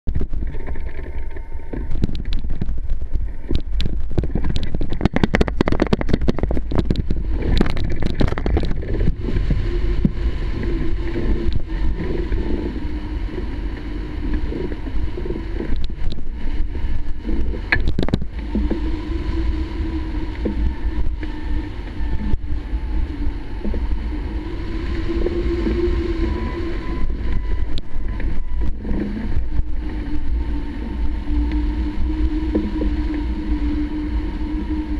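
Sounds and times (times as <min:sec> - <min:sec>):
wind buffeting the microphone: 0:00.1 - 0:34.9.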